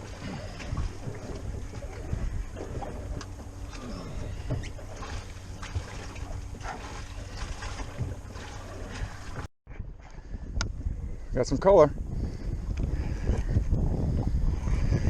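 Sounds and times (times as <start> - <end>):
low steady hum: 0.0 - 15.0
water against hull: 0.0 - 15.0
wind on microphone: 0.0 - 15.0.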